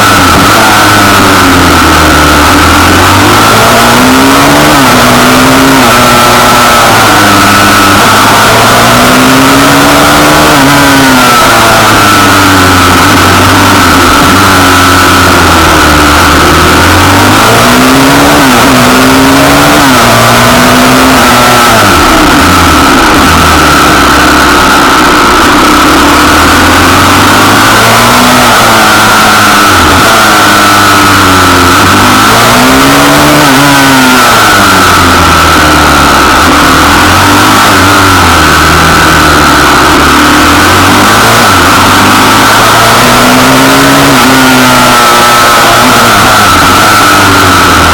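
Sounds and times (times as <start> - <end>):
motorbike engine revving: 0.0 - 47.9
steady rush of noise: 0.0 - 47.9.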